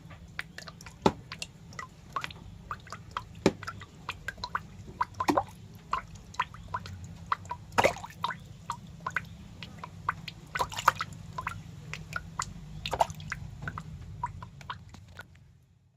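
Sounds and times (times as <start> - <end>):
small wet clicks: 0.0 - 15.7.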